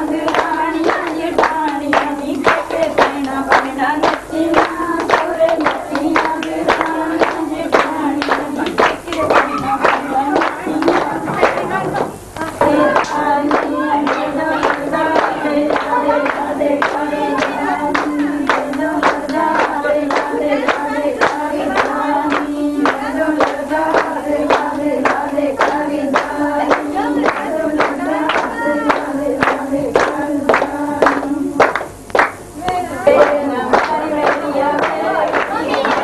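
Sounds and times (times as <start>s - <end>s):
group singing: 0.0s - 36.0s
rhythmic hand-clapping: 0.0s - 36.0s.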